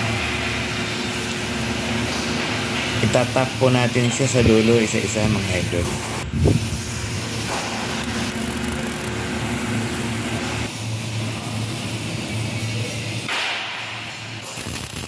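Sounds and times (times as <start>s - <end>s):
welding arc crackling and hissing: 0.0s - 15.0s.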